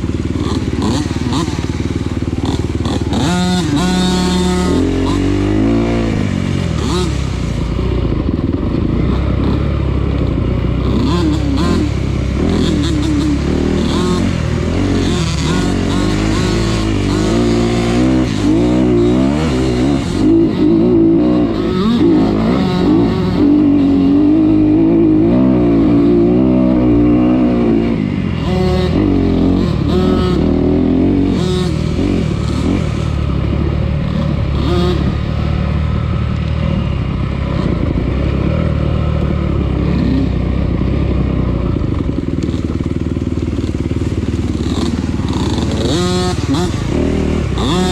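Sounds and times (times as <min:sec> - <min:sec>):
off-road vehicle engine: 0:00.0 - 0:47.9.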